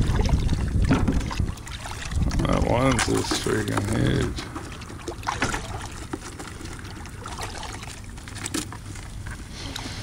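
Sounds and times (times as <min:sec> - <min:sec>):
water lapping around a boat: 0:00.0 - 0:10.0.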